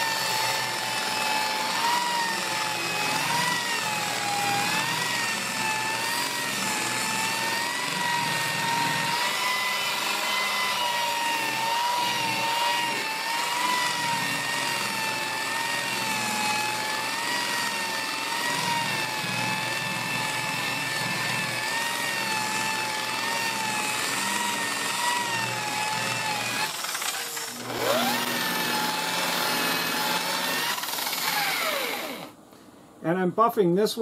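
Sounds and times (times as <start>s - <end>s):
rotary polisher motor whining: 0.0s - 32.4s.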